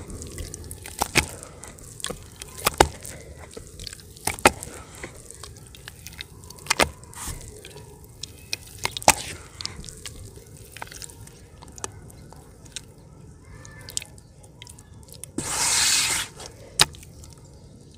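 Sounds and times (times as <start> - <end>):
hands squishing wet mud: 0.0 - 17.9.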